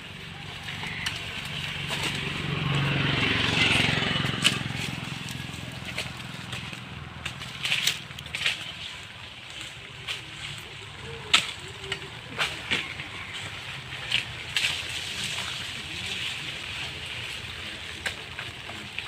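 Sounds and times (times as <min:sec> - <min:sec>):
low steady engine hum: 0:00.0 - 0:19.0.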